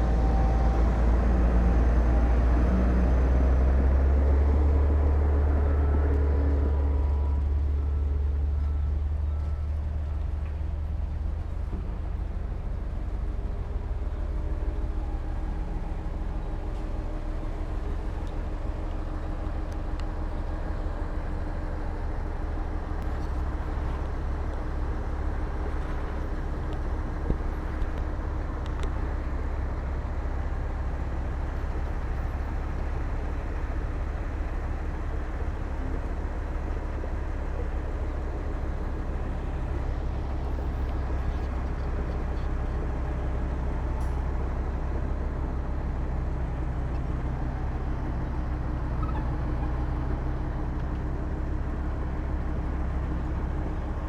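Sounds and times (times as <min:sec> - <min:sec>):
diesel construction machinery running: 0:00.0 - 0:54.0.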